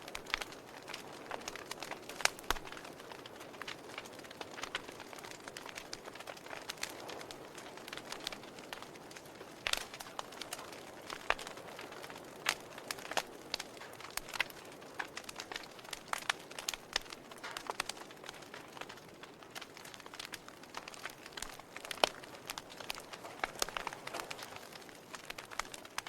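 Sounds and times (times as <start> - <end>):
logs crackling in a fireplace: 0.0 - 26.0.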